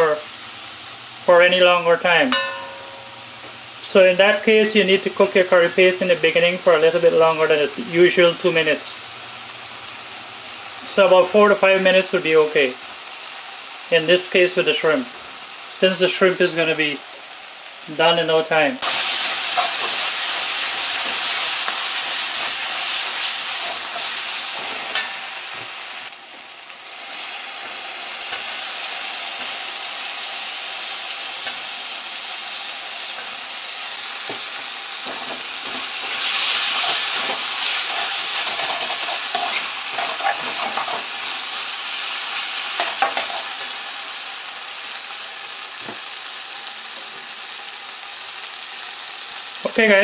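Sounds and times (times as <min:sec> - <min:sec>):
paste sizzling in a pot: 0:00.0 - 0:50.0.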